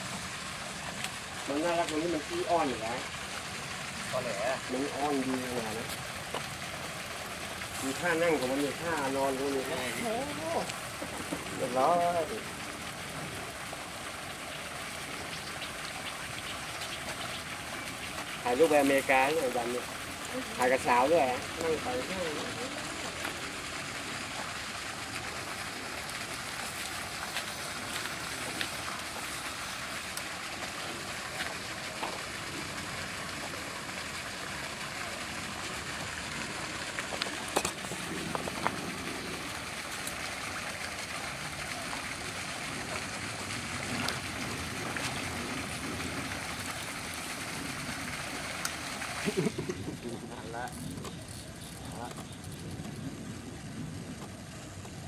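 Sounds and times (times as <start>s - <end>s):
pond aerator water rushing: 0.0s - 55.0s.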